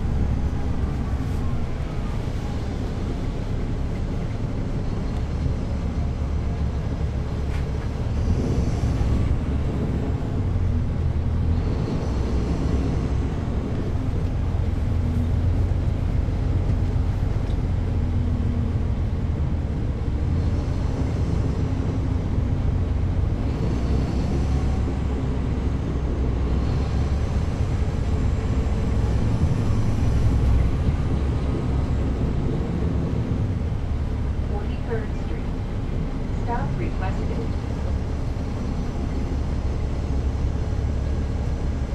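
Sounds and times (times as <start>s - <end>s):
bus diesel engine: 0.0s - 41.9s.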